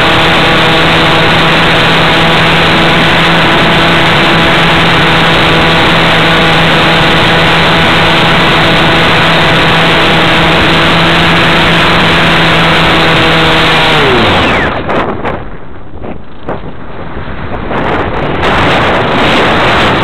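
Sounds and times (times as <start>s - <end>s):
model aircraft motor and propeller: 0.0s - 20.0s
wind buffeting microphone: 0.0s - 20.0s.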